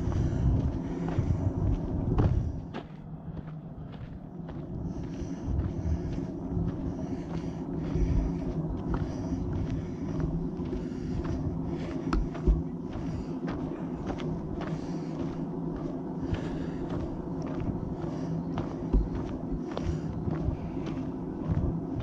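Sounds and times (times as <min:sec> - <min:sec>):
footsteps on trail: 0:00.0 - 0:22.0
steady low hum: 0:00.0 - 0:22.0.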